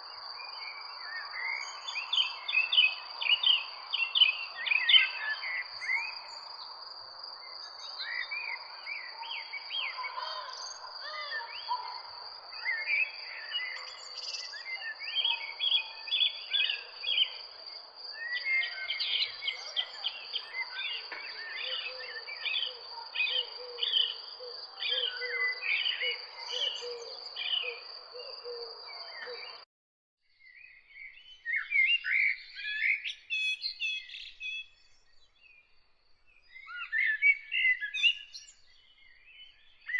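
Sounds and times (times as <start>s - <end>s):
songbirds chirping: 0.0s - 29.6s, 30.3s - 39.9s.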